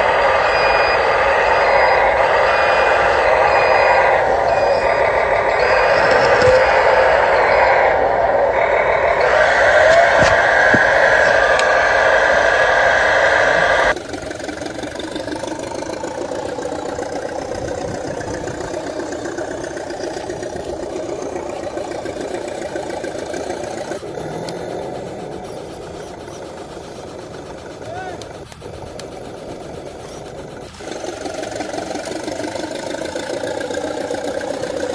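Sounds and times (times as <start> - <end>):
model trucks mechanical noise: 0.0 - 34.9.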